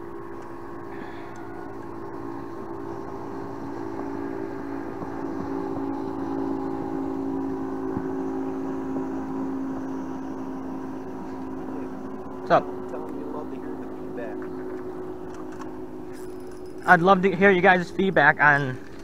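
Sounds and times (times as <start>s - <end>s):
motorboat engine drone: 0.0s - 19.0s.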